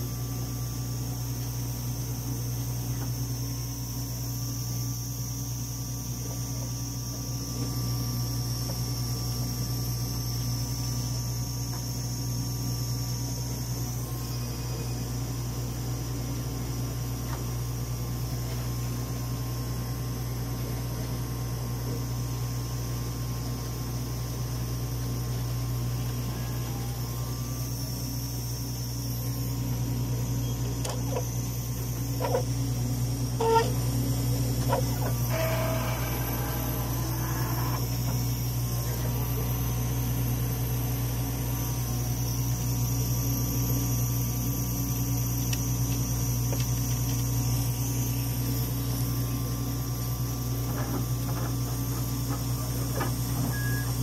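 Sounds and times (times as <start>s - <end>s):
machine hum with high whine: 0.0s - 54.0s.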